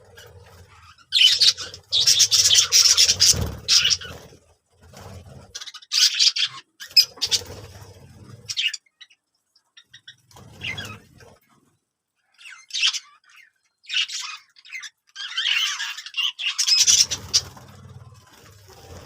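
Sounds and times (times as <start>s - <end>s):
birds squawking and chirping: 0.0s - 11.7s, 12.3s - 19.0s.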